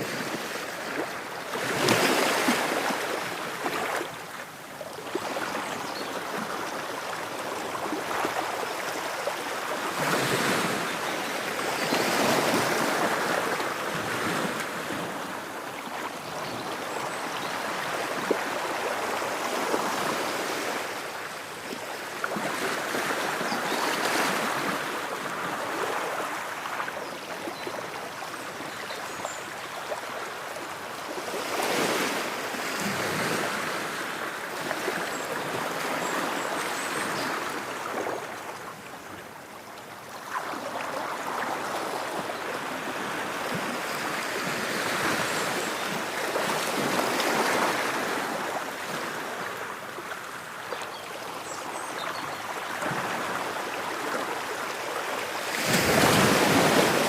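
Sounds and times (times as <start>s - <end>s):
ocean waves on shore: 0.0s - 57.0s.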